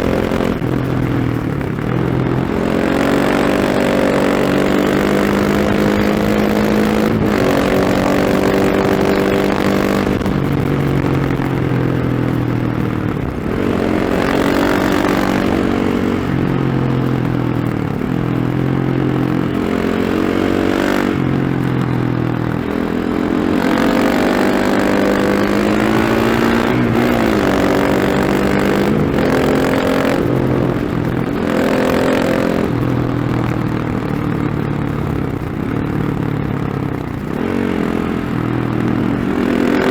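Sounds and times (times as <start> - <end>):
motorcycle engine revving: 0.0 - 39.9
riding wind rush: 0.0 - 39.9.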